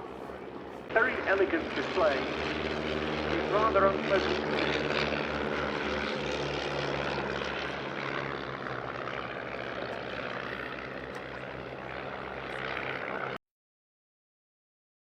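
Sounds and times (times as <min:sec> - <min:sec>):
propeller plane engine drone: 0:00.0 - 0:13.4.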